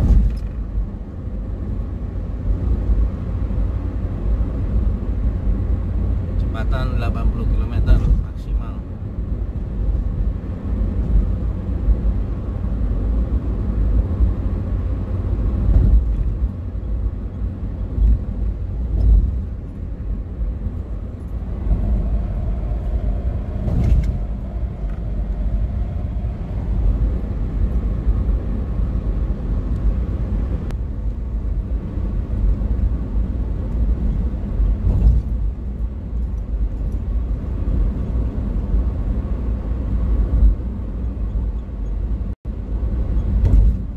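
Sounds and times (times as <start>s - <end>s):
car cabin road rumble: 0.0s - 43.9s.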